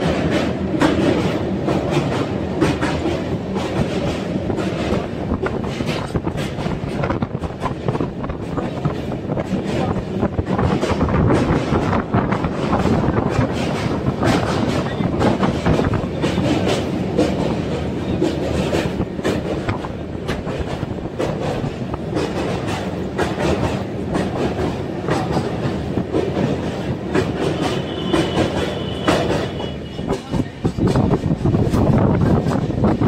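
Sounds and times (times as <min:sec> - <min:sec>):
rail joints clickety-clack: 0:00.0 - 0:33.0
train wheels rumbling on rail: 0:00.0 - 0:33.0.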